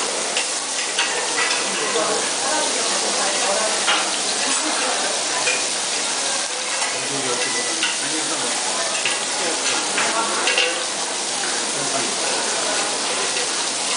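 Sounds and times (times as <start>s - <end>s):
meat sizzling on a grill plate: 0.0s - 13.9s.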